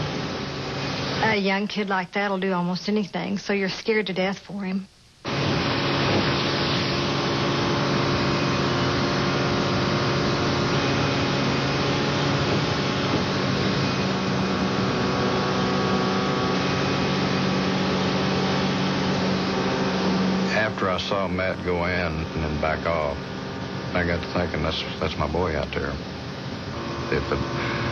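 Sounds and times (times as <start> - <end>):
motorboat engine running: 0.0 - 1.4, 5.2 - 27.9.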